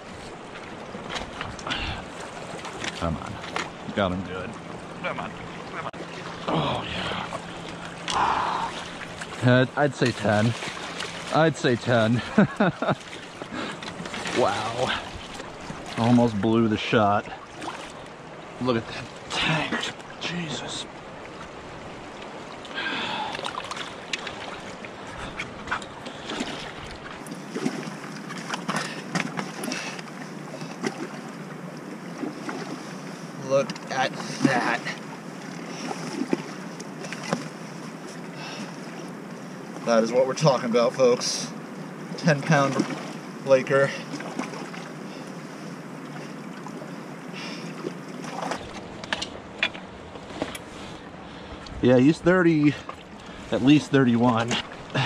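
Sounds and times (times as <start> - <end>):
river current rushing: 0.0 - 55.0.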